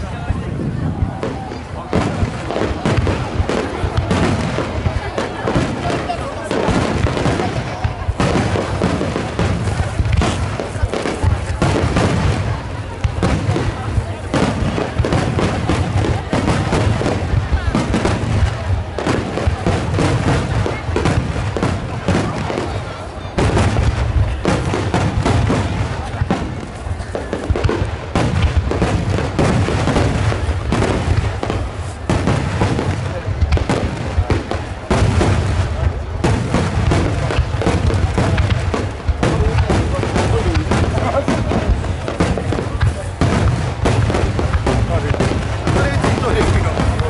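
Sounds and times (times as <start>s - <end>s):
sharp firework cracks: 0.9s - 47.0s.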